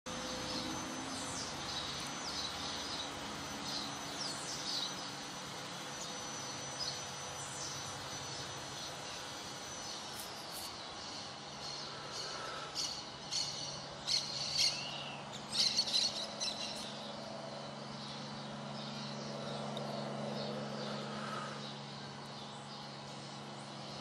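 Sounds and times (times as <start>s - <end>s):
birds chirping and squawking: 0.1s - 24.0s
low steady hum: 0.1s - 24.0s.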